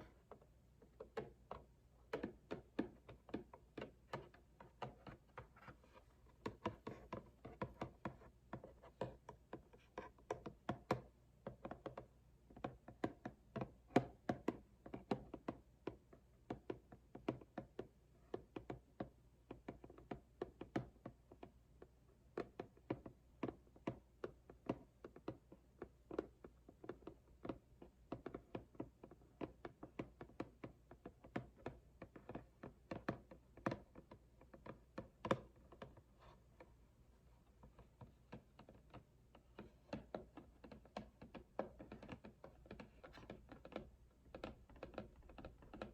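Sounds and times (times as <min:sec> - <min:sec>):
fingertips tapping on cardboard: 0:00.0 - 0:45.9.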